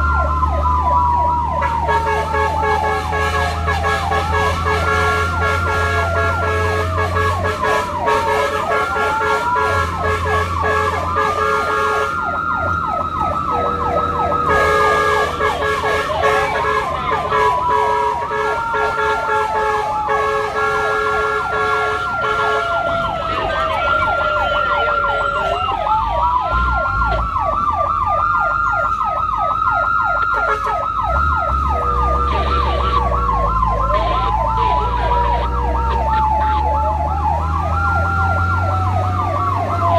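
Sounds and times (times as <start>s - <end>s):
low engine rumble: 0.0s - 39.9s
sirens wailing and yelping: 0.0s - 39.9s.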